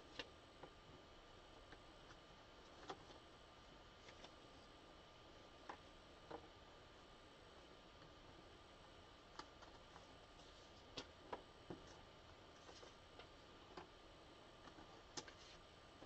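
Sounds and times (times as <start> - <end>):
small irregular clicks and ticks: 0.0 - 16.0.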